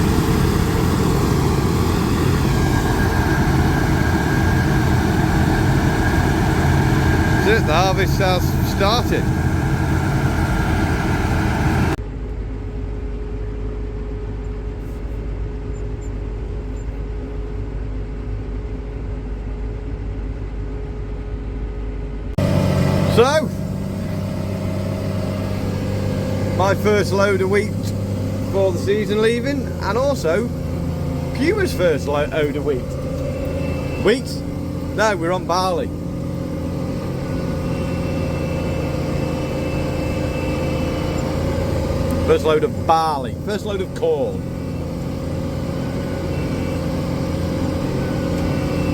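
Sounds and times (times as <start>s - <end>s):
farm machinery engine drone: 0.0s - 48.9s.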